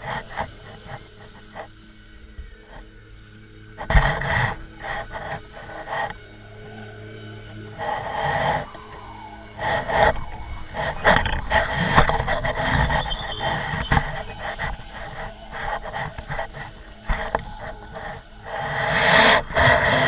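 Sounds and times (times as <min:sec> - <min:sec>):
wind buffeting microphone: 0:03.8 - 0:20.0.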